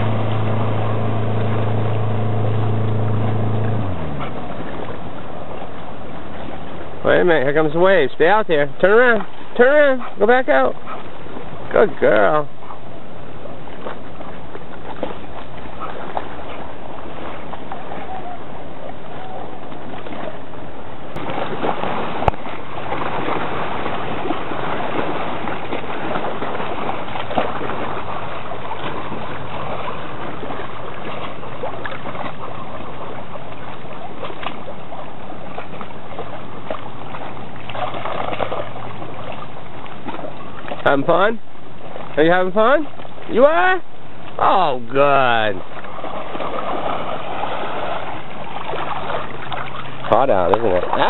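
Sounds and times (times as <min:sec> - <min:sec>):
water lapping and splashing: 0:00.0 - 0:51.0.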